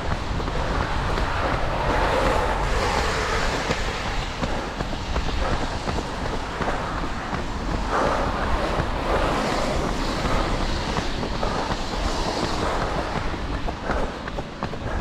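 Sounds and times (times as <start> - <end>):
faint footfalls: 0.0 - 15.0
wind buffeting microphone: 0.0 - 15.0.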